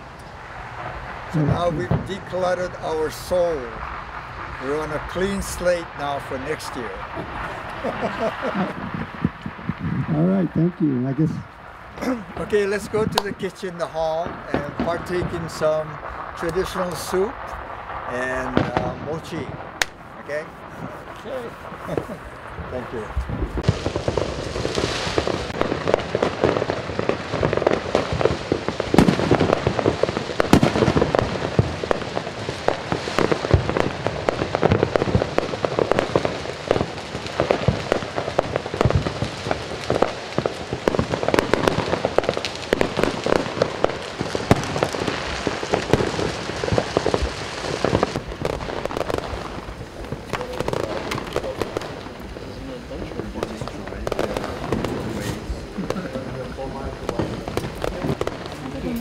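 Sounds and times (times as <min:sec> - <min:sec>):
fireworks and firecrackers popping: 0:00.0 - 0:59.0.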